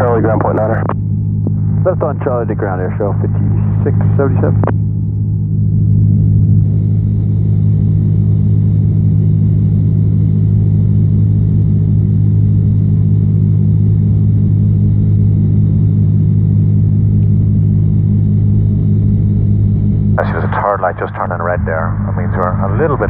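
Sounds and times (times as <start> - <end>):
propeller plane engine droning: 0.0 - 23.0.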